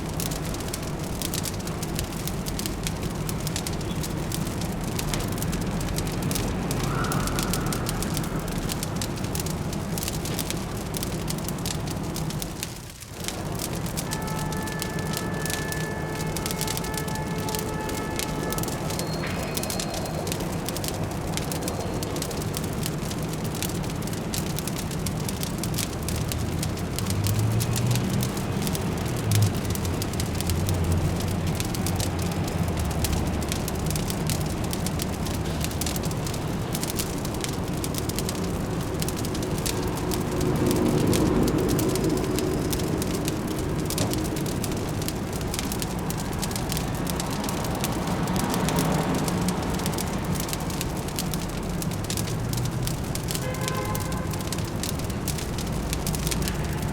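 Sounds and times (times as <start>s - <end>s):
fireplace crackling: 0.0s - 56.9s
low city hum: 0.0s - 56.9s.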